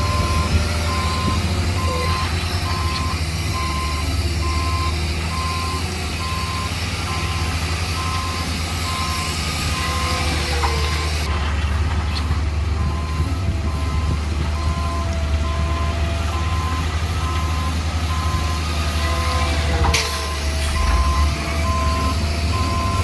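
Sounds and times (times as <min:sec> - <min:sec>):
reversing alarm beeping: 0:00.0 - 0:11.3, 0:12.8 - 0:23.0
engine rumble: 0:00.0 - 0:23.0.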